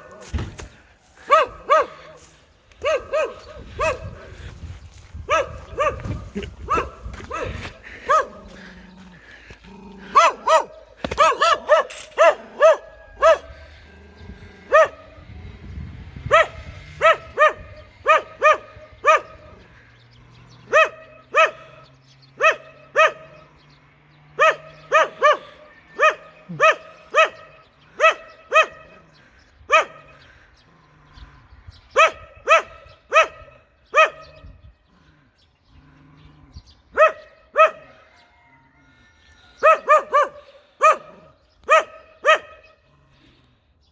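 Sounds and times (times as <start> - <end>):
dog barking fiercely: 0.0 - 0.4, 1.2 - 15.4, 16.1 - 35.1, 35.8 - 38.6, 39.5 - 43.0.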